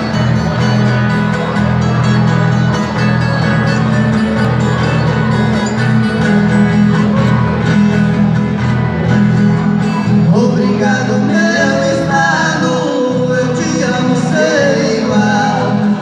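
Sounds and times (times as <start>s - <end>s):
acoustic guitar: 0.0s - 16.0s
viola caipira strummed and picked: 0.0s - 16.0s.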